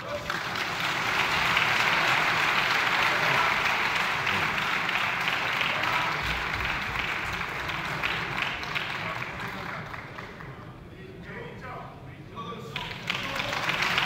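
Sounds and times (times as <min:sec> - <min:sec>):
crowd applauding: 0:00.0 - 0:10.7, 0:12.7 - 0:14.0.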